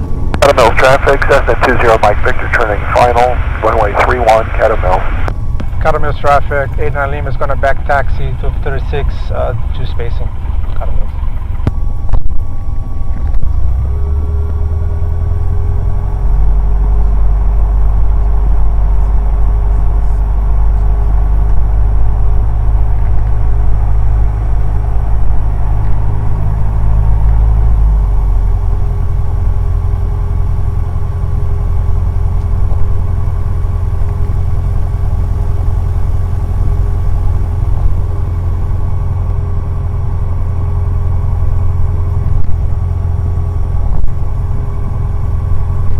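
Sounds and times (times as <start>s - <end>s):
small plane engine droning: 0.0s - 45.9s.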